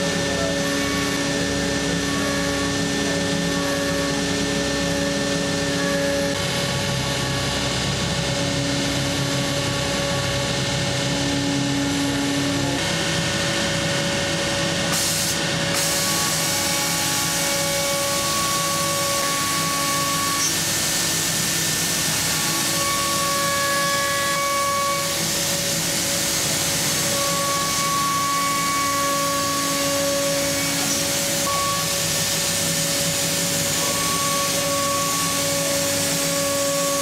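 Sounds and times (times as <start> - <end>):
router cutting wood: 0.0 - 13.6, 14.9 - 37.0.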